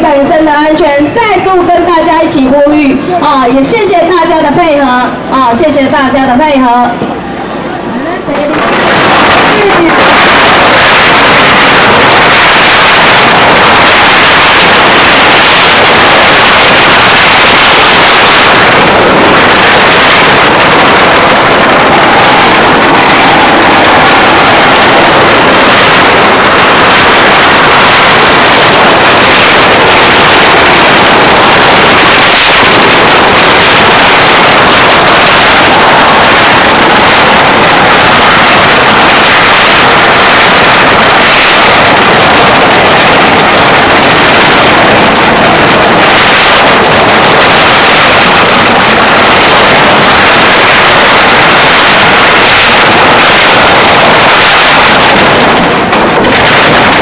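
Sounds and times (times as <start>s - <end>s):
firecrackers crackling: 0.0s - 57.0s.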